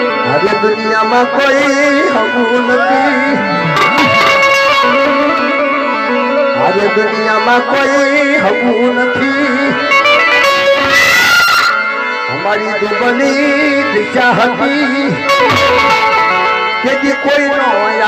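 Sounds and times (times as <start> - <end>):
man singing: 0.0 - 10.7, 12.1 - 18.0
harmonium chords: 0.0 - 18.0.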